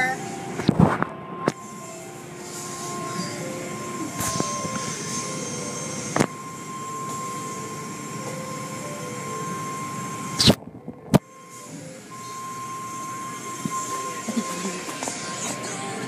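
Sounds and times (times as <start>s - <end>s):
car wash machinery rumble: 0.0s - 16.0s
high whine: 0.0s - 16.0s.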